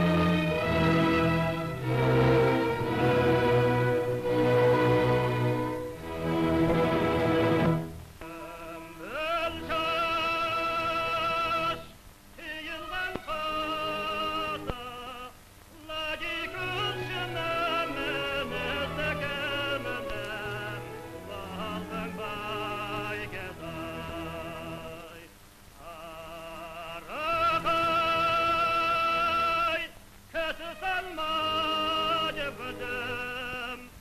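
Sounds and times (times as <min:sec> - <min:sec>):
quiet low accompaniment: 0:00.0 - 0:34.0.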